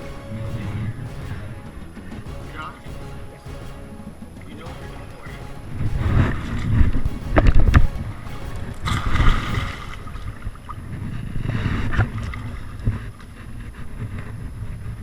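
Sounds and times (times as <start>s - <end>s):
water noise: 0.0s - 13.6s.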